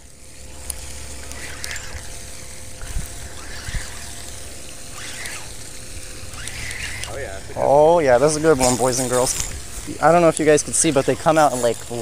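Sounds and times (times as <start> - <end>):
outdoor hiss: 0.0 - 12.0
trickling water: 0.0 - 12.0.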